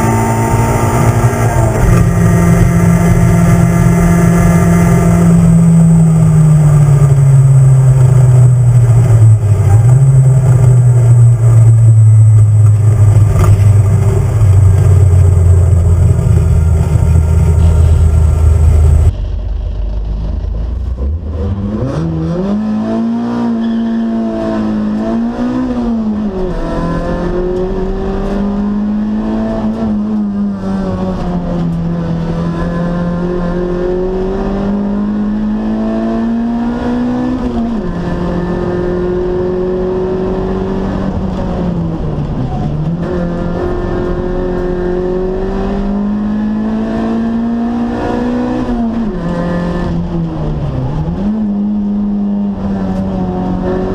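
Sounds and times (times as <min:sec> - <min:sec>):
race car engine at high revs: 0:00.0 - 0:19.1, 0:20.9 - 0:53.9.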